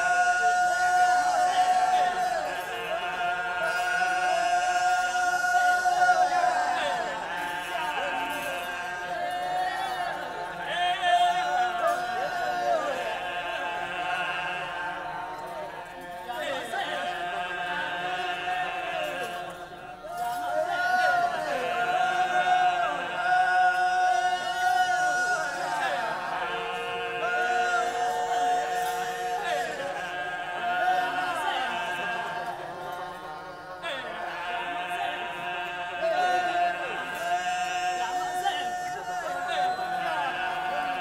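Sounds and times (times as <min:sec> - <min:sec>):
men singing without instruments: 0:00.0 - 0:41.0.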